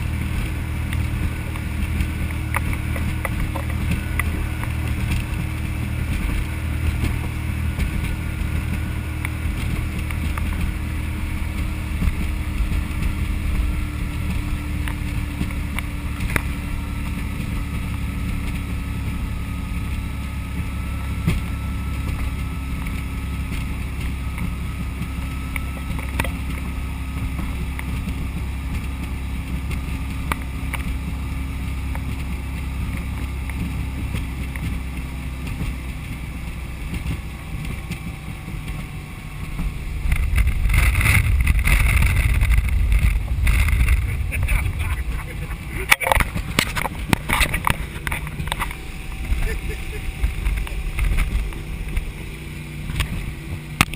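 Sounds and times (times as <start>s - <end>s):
boat engine running: 0.0s - 53.9s
wind on microphone: 0.0s - 53.9s.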